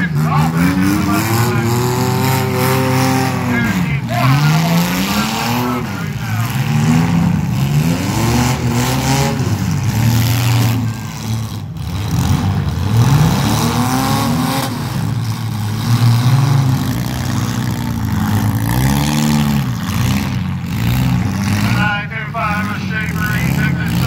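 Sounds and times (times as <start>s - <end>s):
car engines revving hard: 0.0s - 24.0s.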